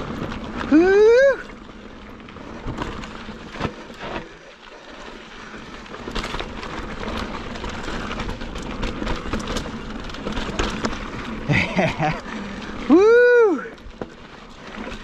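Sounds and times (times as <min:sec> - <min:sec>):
bike rattling and knocking: 0:00.0 - 0:15.0
bike tyres crunching on gravel: 0:00.0 - 0:15.0.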